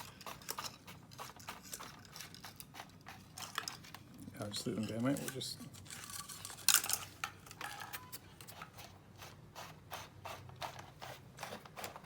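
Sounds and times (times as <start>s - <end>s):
wiring scraping and clicking: 0.0s - 12.0s.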